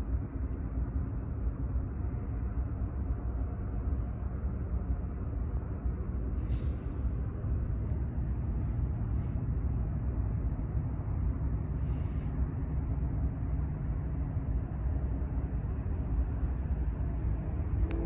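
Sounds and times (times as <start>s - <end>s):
faint engine hum: 0.0s - 18.0s
freight train rumble: 0.0s - 18.0s.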